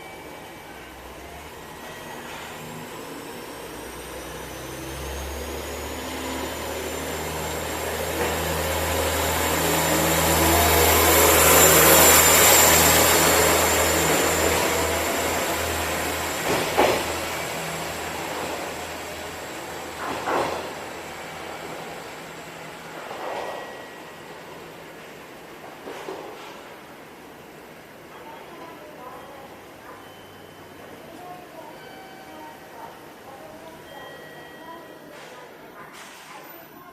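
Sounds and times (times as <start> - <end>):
diesel railcar passing: 0.0 - 36.8.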